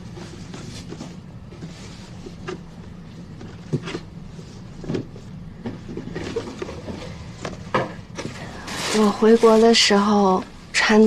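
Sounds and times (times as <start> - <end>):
soft rustles: 0.0 - 7.6, 8.2 - 10.4
low steady hum: 0.0 - 11.0.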